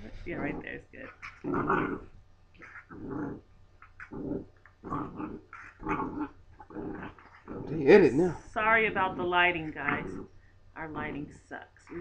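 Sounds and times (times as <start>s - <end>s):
puppies growling: 0.0s - 10.4s, 11.8s - 12.0s.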